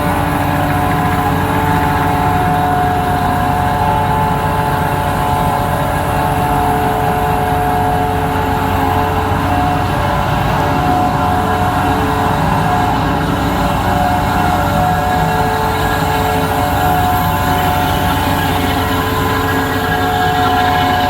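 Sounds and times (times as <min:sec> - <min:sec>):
crane engine running: 0:00.0 - 0:21.0
high whine of hoist drive: 0:00.0 - 0:21.0.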